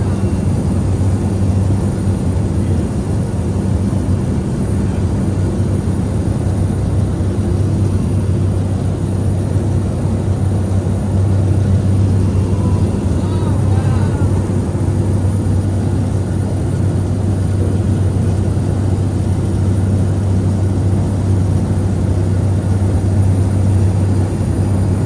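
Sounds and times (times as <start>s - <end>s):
airplane engine drone in cabin: 0.0s - 25.0s.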